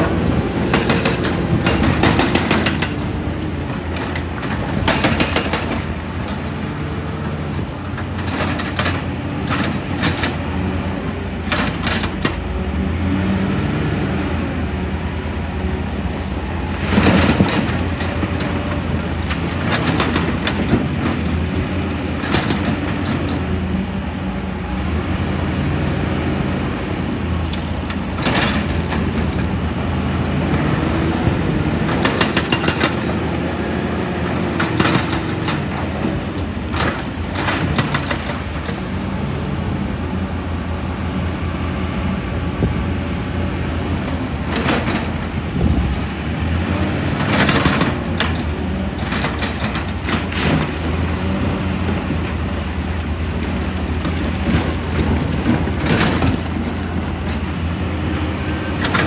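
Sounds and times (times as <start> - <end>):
excavator diesel engine: 0.0 - 59.0
rock clanking and crunching: 0.0 - 59.0.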